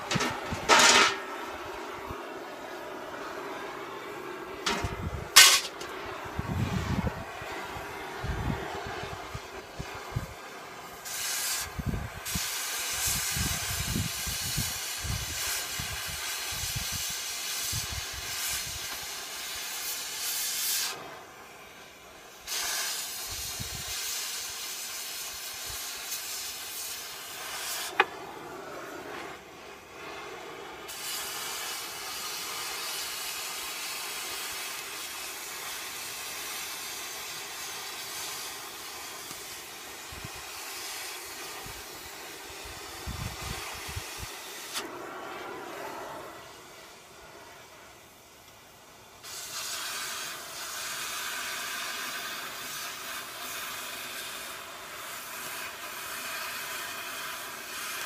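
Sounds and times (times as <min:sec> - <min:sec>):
cutting torch hissing: 0:00.0 - 0:58.0.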